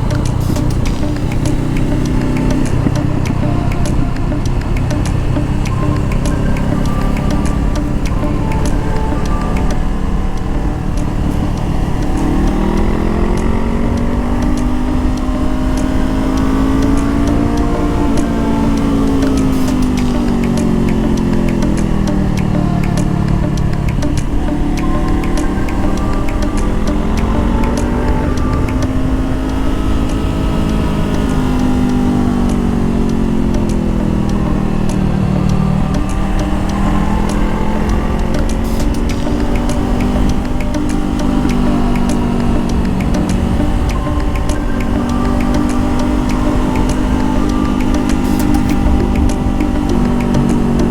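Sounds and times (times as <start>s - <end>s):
constant rushing noise: 0.0s - 50.9s
motorcycle engine accelerating: 0.0s - 50.9s.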